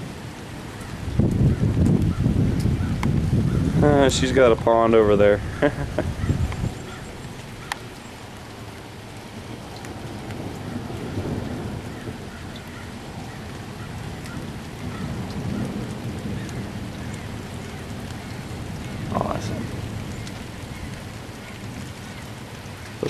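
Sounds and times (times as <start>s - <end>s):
heavy rain pouring: 0.0s - 23.0s
low roll of thunder: 1.0s - 7.7s, 9.4s - 22.0s.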